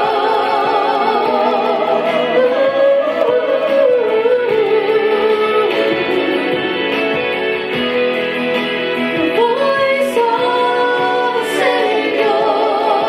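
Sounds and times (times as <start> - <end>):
person singing with vibrato: 0.0 - 7.7, 9.2 - 13.0
instrumental backing: 0.0 - 13.0.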